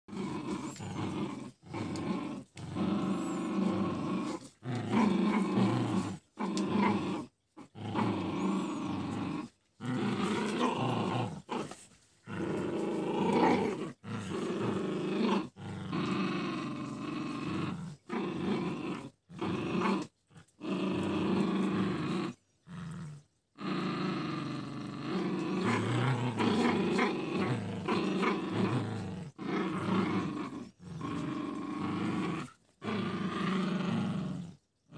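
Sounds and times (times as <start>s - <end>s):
dogs play-growling: 0.1s - 34.9s.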